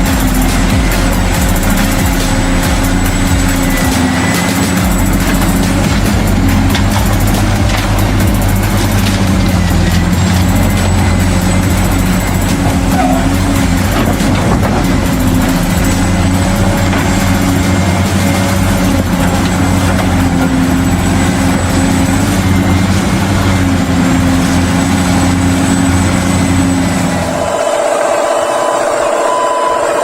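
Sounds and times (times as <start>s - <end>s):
higher engine tone: 0.0s - 30.0s
toy excavator engine rumble: 0.0s - 30.0s.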